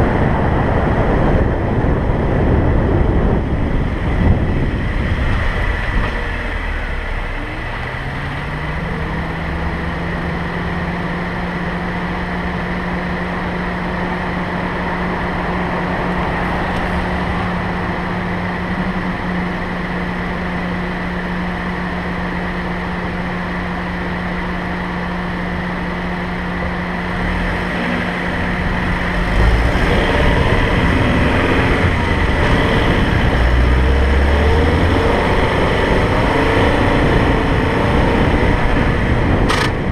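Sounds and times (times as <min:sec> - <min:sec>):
car engine accelerating: 0:00.0 - 0:39.9
low rumble: 0:00.0 - 0:39.9
road and wind noise: 0:00.0 - 0:39.9.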